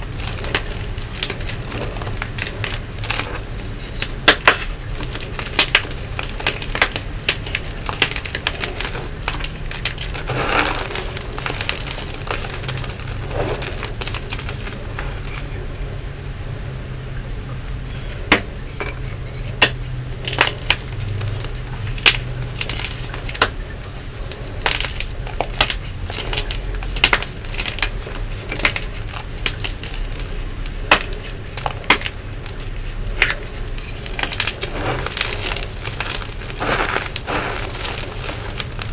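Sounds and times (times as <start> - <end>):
plastic blocks crackling and snapping: 0.0 - 15.8, 18.2 - 38.9.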